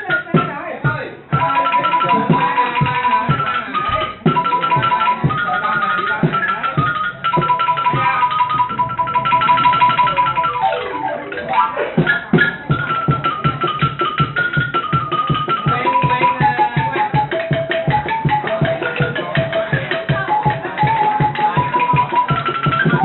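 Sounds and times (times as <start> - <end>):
steady percussion beat: 0.0 - 23.0
xylophone-like melody: 1.3 - 23.0.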